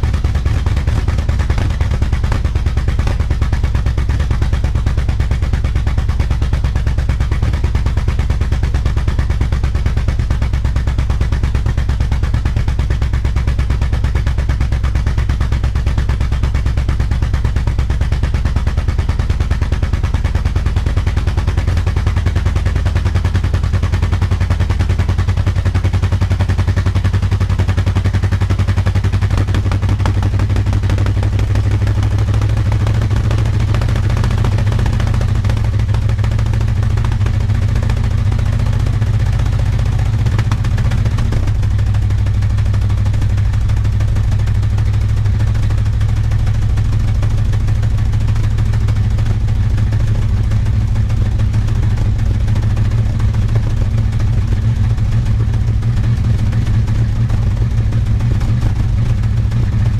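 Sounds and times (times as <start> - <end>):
engine idling with exhaust pulses: 0.0 - 59.9.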